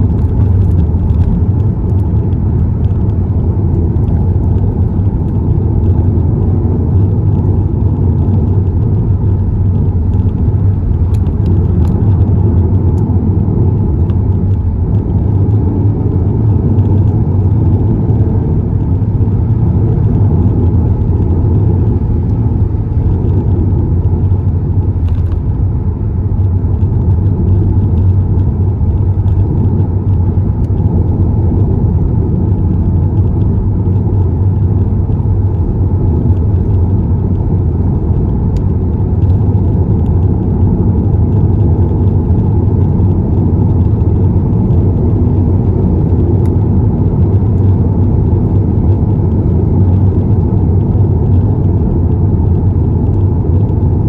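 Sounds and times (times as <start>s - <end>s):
car engine rumble: 0.0s - 54.0s
tyre road noise: 0.0s - 54.0s.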